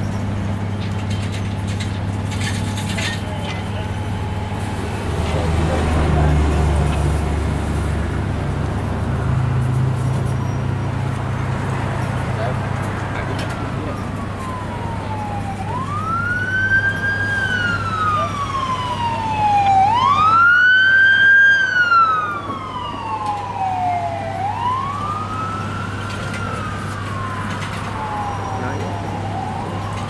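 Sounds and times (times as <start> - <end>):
siren wailing: 2.4 - 8.0, 8.9 - 30.0.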